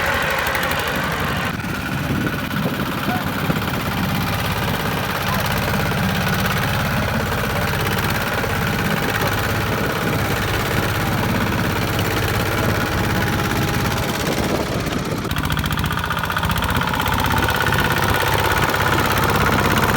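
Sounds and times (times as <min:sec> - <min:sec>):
diesel engine chugging: 0:00.0 - 0:19.9.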